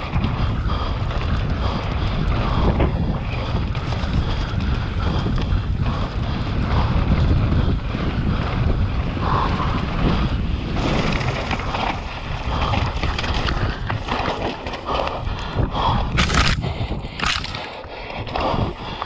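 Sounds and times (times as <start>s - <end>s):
bike rattling over bumps: 0.0s - 19.0s
wind buffeting microphone: 0.0s - 19.0s.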